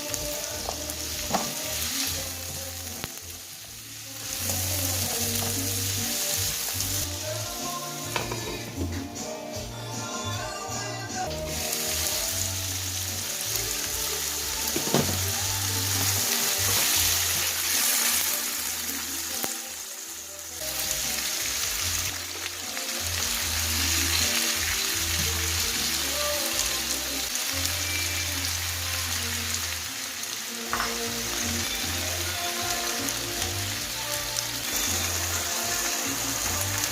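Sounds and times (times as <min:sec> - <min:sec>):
food sizzling in hot oil: 0:00.0 - 0:10.3, 0:11.2 - 0:36.9
background music: 0:00.0 - 0:36.9.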